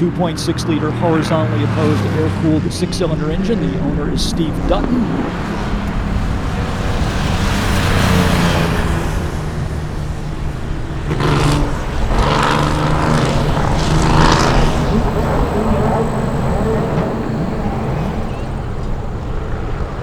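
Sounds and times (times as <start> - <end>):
race car engine passing: 0.0 - 20.0.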